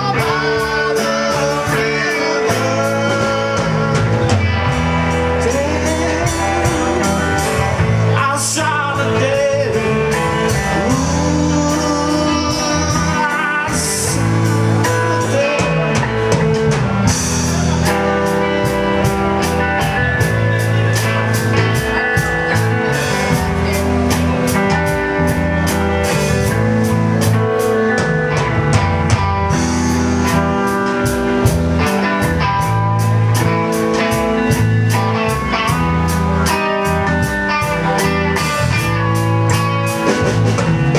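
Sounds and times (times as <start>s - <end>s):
drum kit beat: 0.0s - 40.9s
electric guitar: 0.0s - 40.9s
rockabilly blues band playing: 0.0s - 40.9s.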